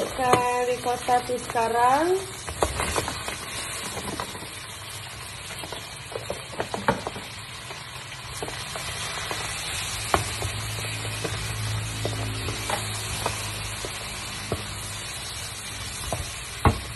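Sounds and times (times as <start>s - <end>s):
fish sizzling in a pan: 0.0s - 16.9s.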